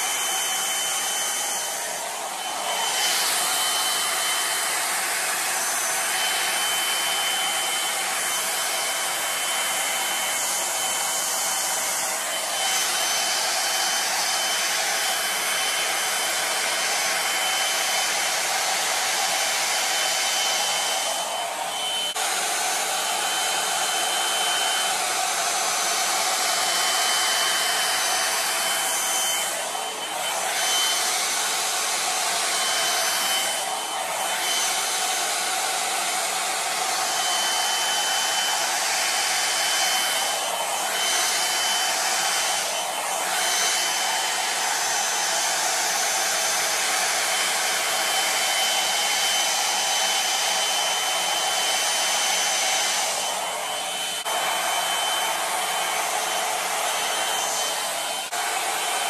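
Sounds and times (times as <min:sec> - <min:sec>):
hair dryer blowing with high whine: 0:00.0 - 0:59.0.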